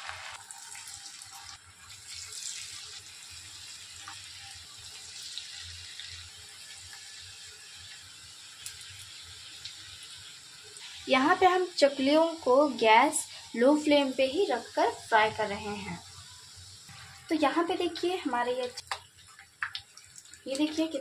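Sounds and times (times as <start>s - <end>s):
dough sizzling in hot oil: 0.0s - 21.0s.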